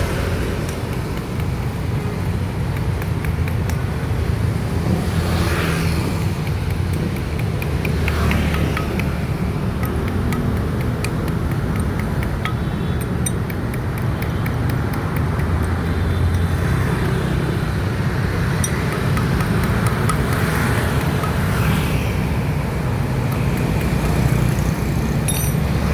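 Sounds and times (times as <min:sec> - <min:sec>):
road traffic engine rumble: 0:00.0 - 0:25.9.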